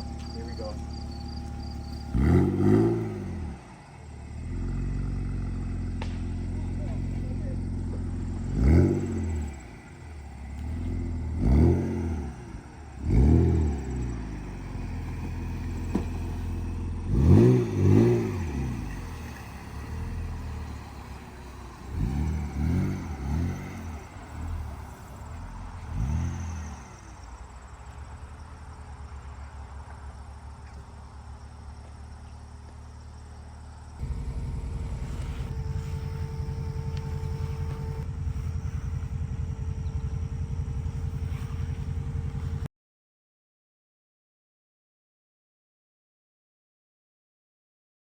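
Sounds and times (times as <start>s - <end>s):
car engine revving and idling: 0.0s - 42.7s.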